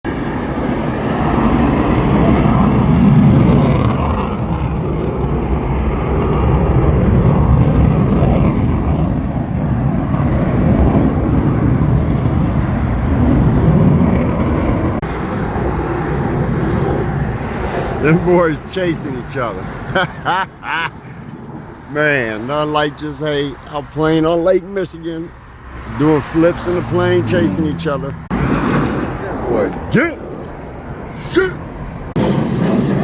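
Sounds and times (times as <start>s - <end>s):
airplane engines droning: 0.1s - 33.0s.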